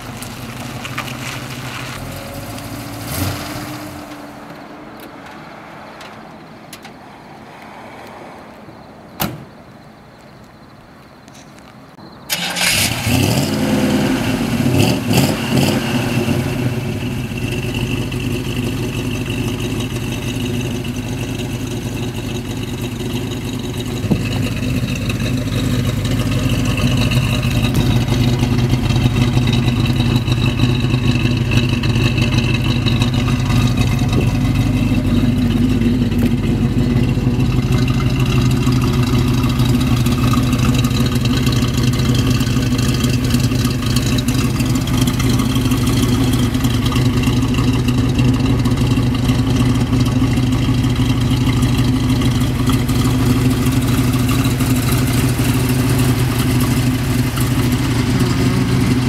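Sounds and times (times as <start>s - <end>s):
car engine starting and revving: 0.0s - 6.4s, 12.3s - 59.0s
car engine idling: 0.0s - 7.6s, 12.3s - 59.0s.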